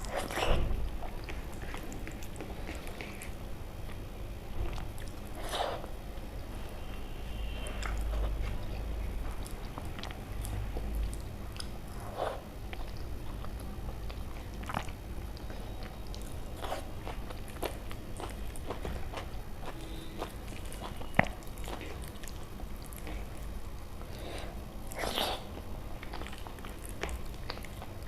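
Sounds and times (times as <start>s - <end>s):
person chewing food: 0.0s - 6.8s, 7.5s - 28.0s.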